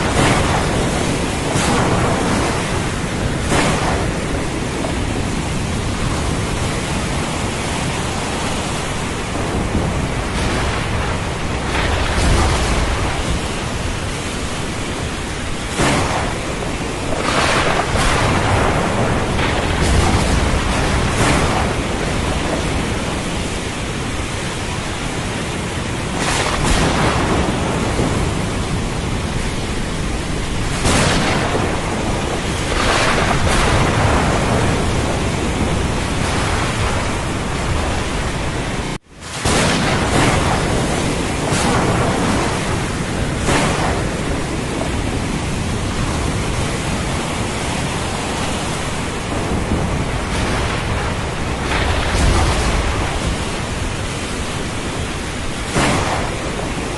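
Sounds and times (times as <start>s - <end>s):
heavy rain: 0.0s - 56.9s
ocean surf: 0.0s - 56.9s.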